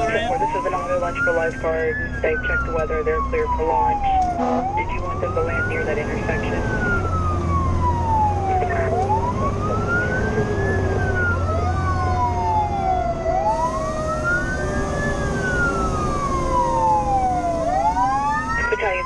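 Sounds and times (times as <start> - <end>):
mechanical siren wailing: 0.0 - 19.0
road noise: 0.0 - 19.0
truck engine running: 0.0 - 19.0.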